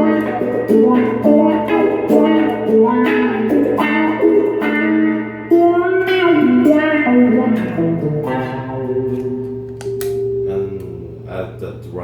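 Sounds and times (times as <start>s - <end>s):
electric guitar with wah: 0.0s - 11.9s.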